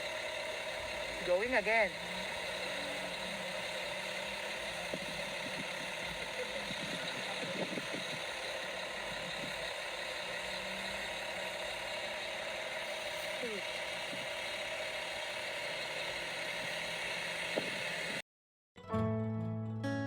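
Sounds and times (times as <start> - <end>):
vehicle engine idling: 0.0 - 18.2.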